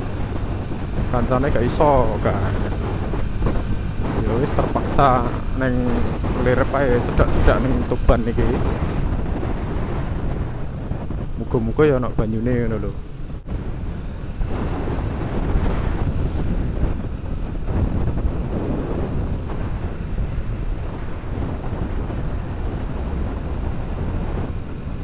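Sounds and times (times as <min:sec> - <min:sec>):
motorcycle running: 0:00.0 - 0:25.0
road noise: 0:00.0 - 0:25.0
wind buffeting microphone: 0:00.0 - 0:25.0.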